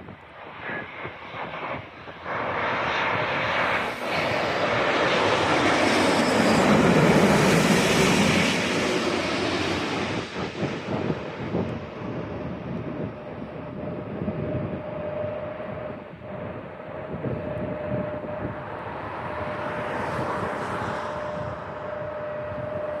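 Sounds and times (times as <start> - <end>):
jet engines rushing and whining: 0.0 - 23.0.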